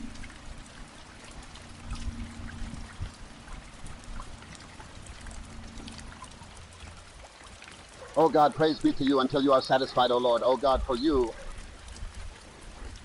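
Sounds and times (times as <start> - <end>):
drops ticking close by: 0.0 - 13.0
steady rain falling: 0.0 - 13.0
water running: 0.0 - 13.0.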